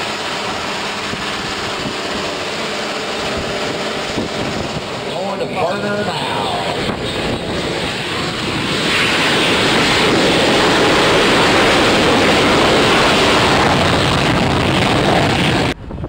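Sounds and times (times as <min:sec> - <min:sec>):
jet engine roaring: 0:00.0 - 0:16.0.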